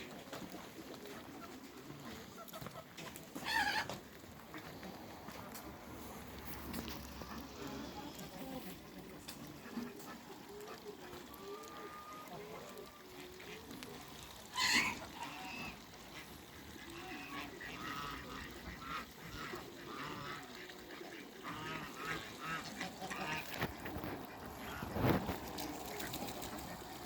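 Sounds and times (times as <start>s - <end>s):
ducks and geese calling: 0.0s - 27.0s.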